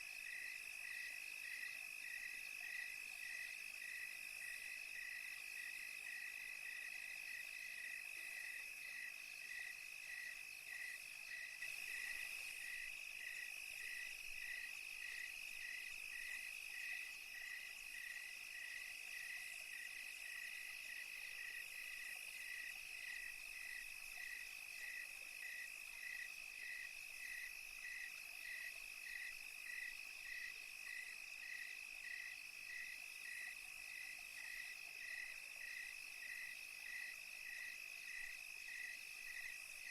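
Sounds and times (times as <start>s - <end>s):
cricket chirping rhythmically: 0.0s - 39.9s
faint high insect hiss: 0.0s - 39.9s.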